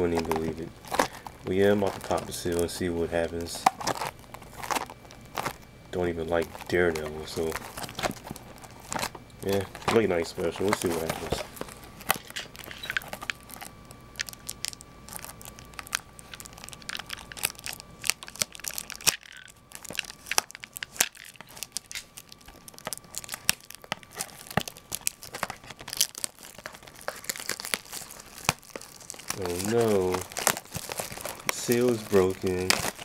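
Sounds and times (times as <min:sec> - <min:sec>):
shrink-wrap crinkling and tearing: 0:00.0 - 0:33.0.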